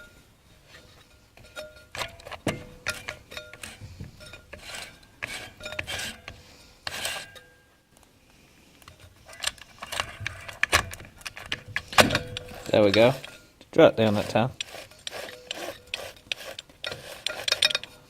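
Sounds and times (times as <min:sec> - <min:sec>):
steel parts clinking and scraping: 0:00.0 - 0:07.7, 0:08.8 - 0:18.0.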